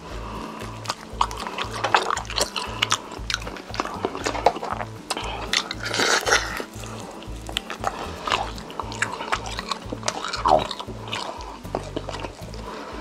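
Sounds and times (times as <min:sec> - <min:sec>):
background music with bass beat: 0:00.0 - 0:13.0
crunchy chewing: 0:00.0 - 0:13.0.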